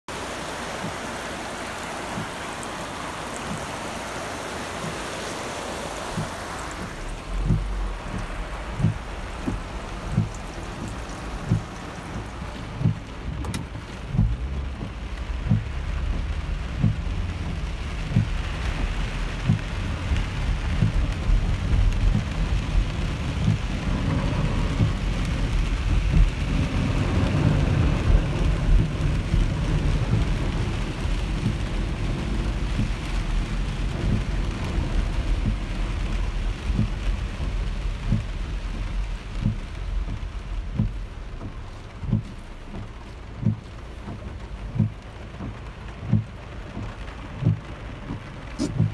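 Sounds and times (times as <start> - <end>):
rain falling steadily: 0.0 - 48.9.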